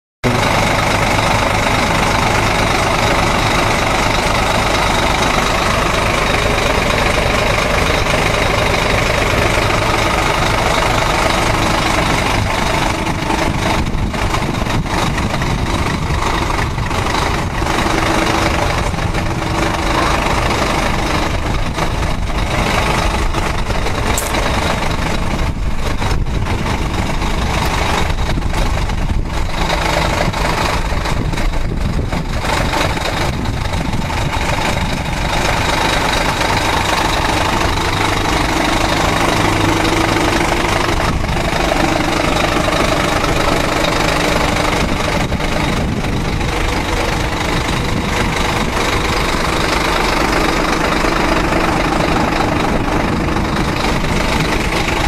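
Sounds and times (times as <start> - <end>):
pickup engine and tyre noise: 0.2 - 55.0.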